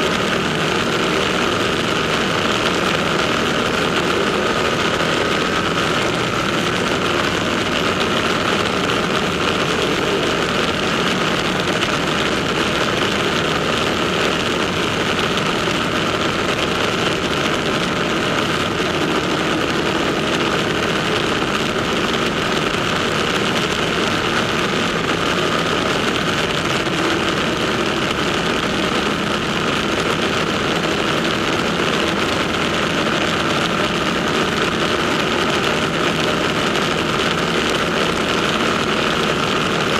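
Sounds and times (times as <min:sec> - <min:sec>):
motorcycle engines running: 0:00.0 - 0:39.9.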